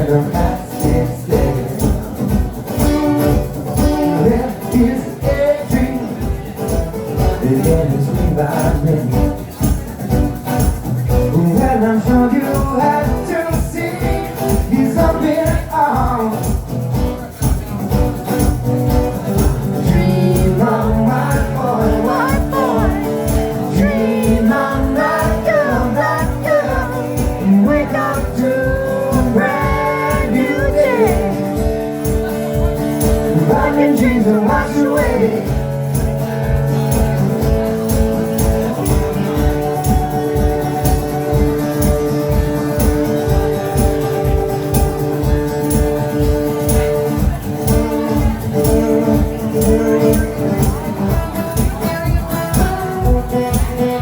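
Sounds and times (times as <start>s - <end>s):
driving drum beat: 0.0s - 54.0s
live band playing: 0.0s - 54.0s.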